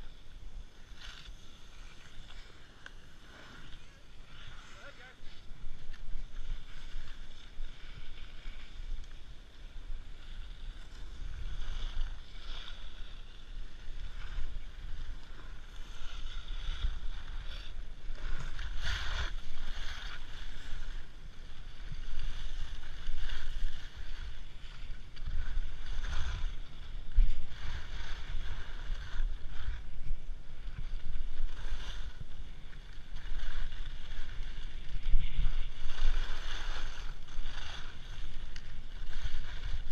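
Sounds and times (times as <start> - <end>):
skis scraping on snow: 0.0 - 39.9
wind rumble on microphone: 0.0 - 39.9.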